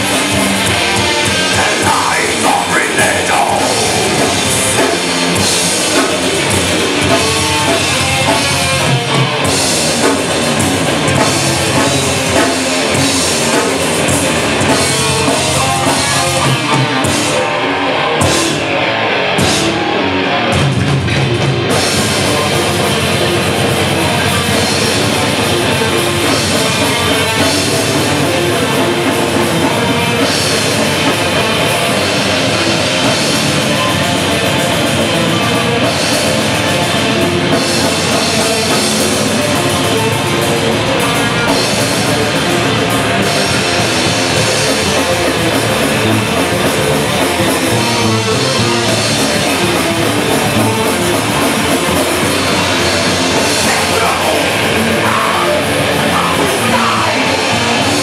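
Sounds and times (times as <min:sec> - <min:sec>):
bass guitar: 0:00.0 - 0:58.0
distorted electric guitars: 0:00.0 - 0:58.0
drum kit with cymbals: 0:00.0 - 0:58.0.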